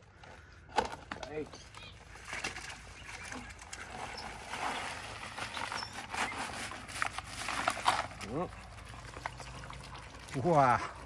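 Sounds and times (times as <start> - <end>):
crawfish shells clattering: 2.1 - 11.0.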